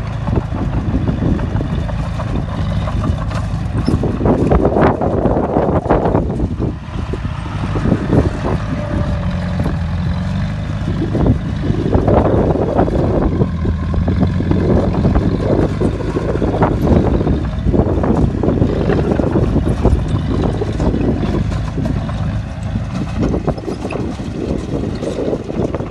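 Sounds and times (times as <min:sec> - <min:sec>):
bulldozer diesel engine under load: 0:00.0 - 0:25.9.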